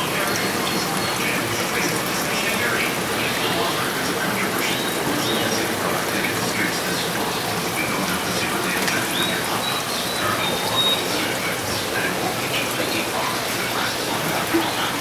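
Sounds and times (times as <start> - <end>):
aquarium filter water splashing: 0.0 - 15.0.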